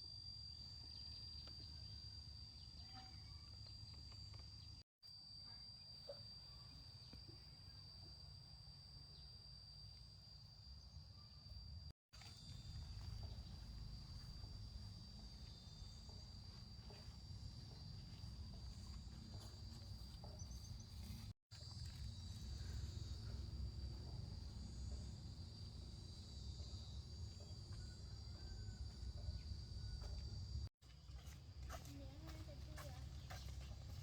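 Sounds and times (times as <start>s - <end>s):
insects droning: 0.0s - 31.1s.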